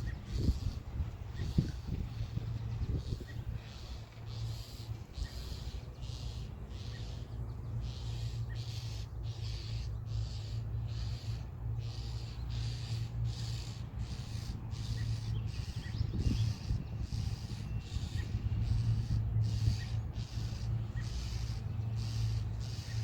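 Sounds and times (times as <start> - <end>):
birds harsh alarm calls: 0.0 - 23.0
steady low hum: 0.0 - 23.0.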